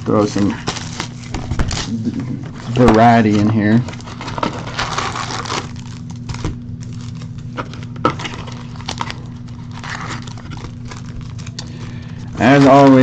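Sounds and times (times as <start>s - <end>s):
steady low hum: 0.0s - 13.0s
card box packaging handled: 0.2s - 13.0s.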